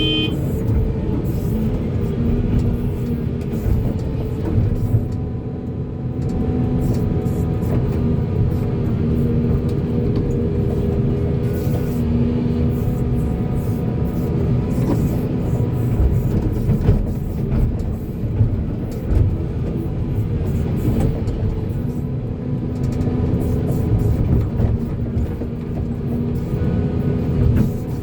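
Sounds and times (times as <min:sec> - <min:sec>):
excavator diesel engine under load: 0:00.0 - 0:28.0.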